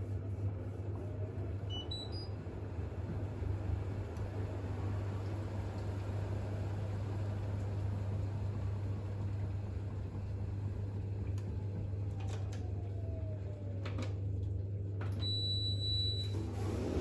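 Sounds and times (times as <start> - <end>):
washing machine drum and motor hum: 0.0 - 17.0.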